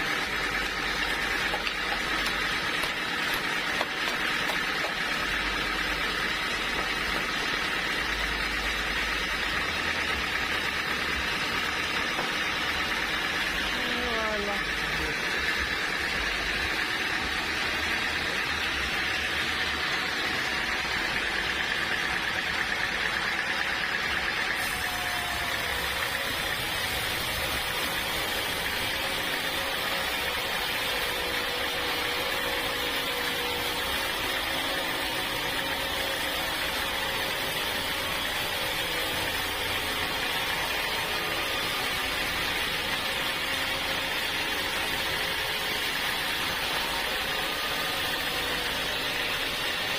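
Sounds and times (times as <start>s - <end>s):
sawmill machinery drone and whine: 0.0s - 49.9s.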